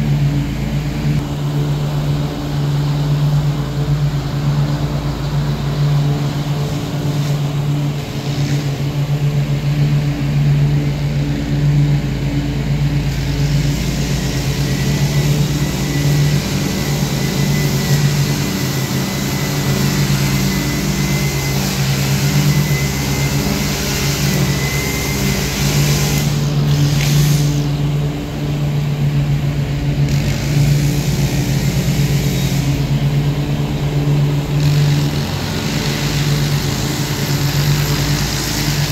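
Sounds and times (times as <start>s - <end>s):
faint high whine: 0.0s - 38.9s
mower engine droning: 0.0s - 38.9s.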